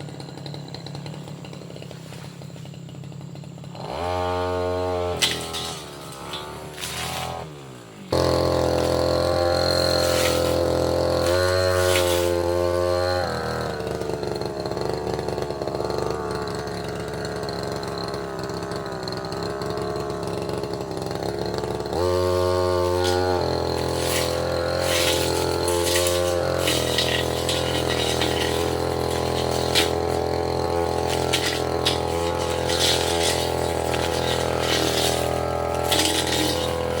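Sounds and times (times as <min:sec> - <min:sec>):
brush cutter engine revving: 0:00.0 - 0:37.0.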